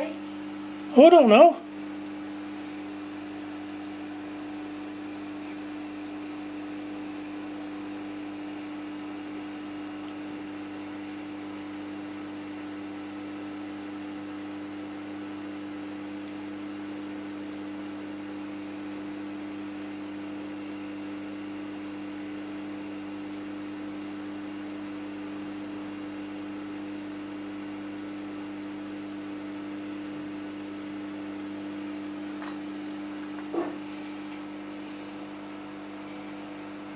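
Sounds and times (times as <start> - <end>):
aquarium equipment humming: 0.0 - 36.9.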